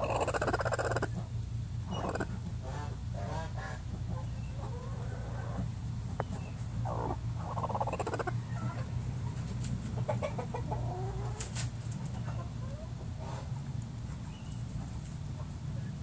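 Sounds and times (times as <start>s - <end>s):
chickens clucking: 0.0s - 16.0s
steady low hum: 0.0s - 16.0s.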